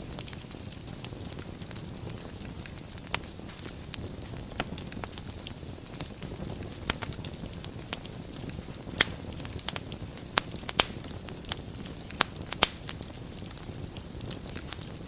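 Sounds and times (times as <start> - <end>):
fire popping and crackling: 0.0 - 15.0
fireplace fire rumbling: 0.0 - 15.0.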